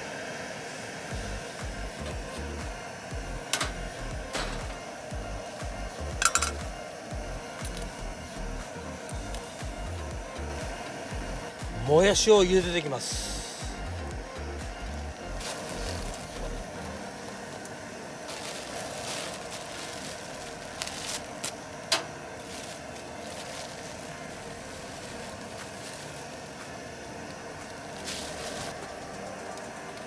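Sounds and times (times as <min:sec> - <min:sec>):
cooking burner rushing: 0:00.0 - 0:30.0.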